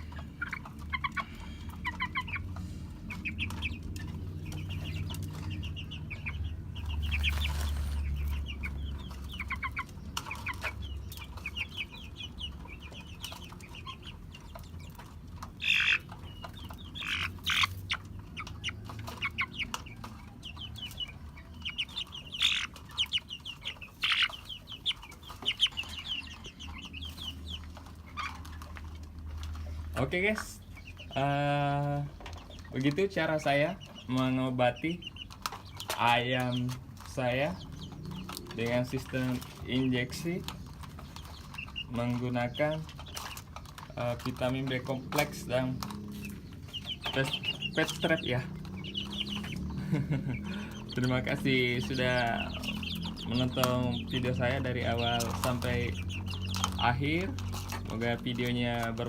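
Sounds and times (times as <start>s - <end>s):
chicken clucking: 0.0s - 59.0s.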